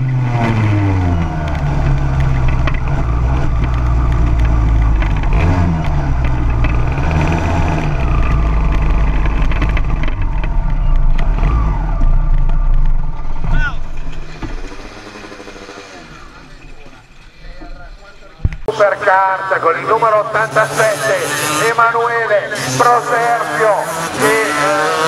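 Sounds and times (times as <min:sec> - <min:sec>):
kart engine at low revs: 0:00.0 - 0:18.8, 0:19.4 - 0:25.0.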